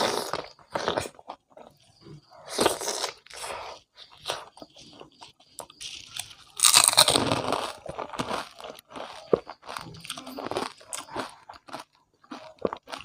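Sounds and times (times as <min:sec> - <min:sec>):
crunchy food chewing: 0:00.0 - 0:13.0.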